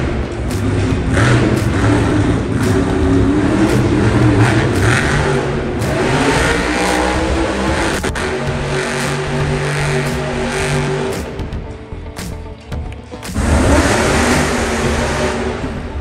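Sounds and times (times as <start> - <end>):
truck engine revving hard: 0.0 - 11.8, 13.3 - 16.0.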